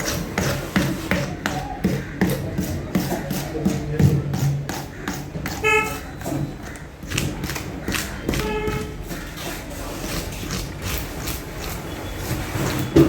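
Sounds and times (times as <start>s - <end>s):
knife chopping fish: 0.0s - 13.0s.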